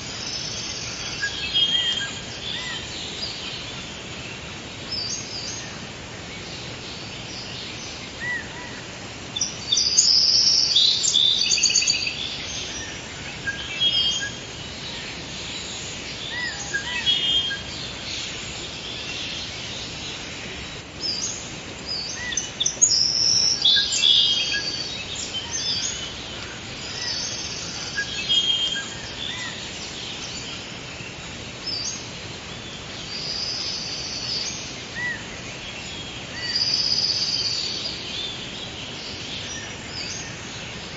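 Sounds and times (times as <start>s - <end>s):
birds chirping and singing: 0.0s - 40.9s
steady background hiss: 0.0s - 40.9s.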